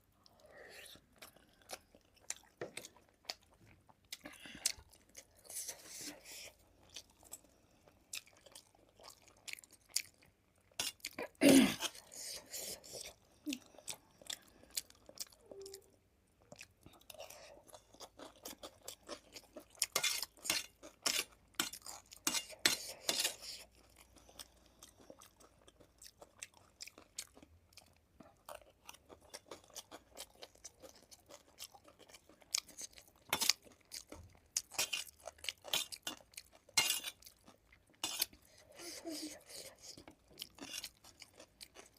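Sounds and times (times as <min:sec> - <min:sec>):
person chewing and crunching food: 0:00.0 - 0:41.9.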